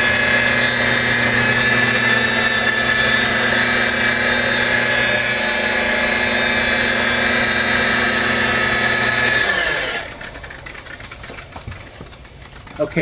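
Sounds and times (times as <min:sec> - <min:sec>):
rotary buffer running: 0:00.0 - 0:13.0.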